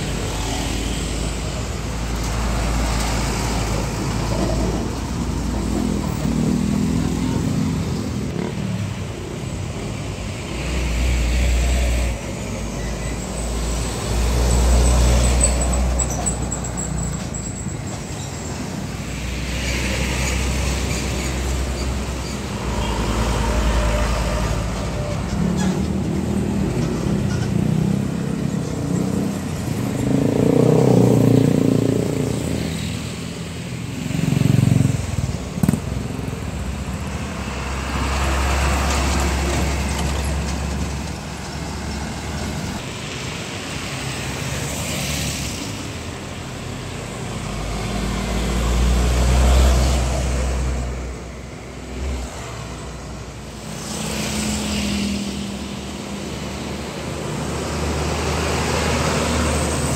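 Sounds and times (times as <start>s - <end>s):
trucks passing: 0.0s - 59.9s.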